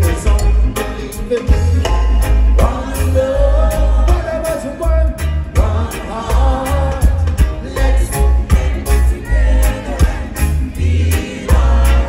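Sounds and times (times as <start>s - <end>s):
heavy pulsing bass line: 0.0s - 12.0s
man singing: 0.0s - 12.0s
reggae band playing: 0.0s - 12.0s.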